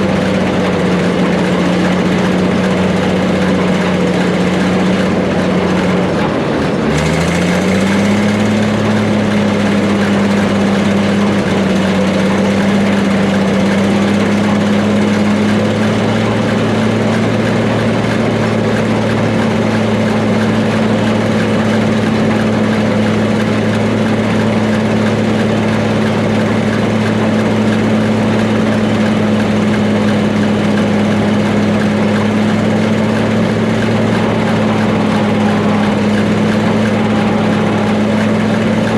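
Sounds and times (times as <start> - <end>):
combine harvester engine running: 0.0 - 38.9
threshing machinery hum and rattle: 0.0 - 38.9.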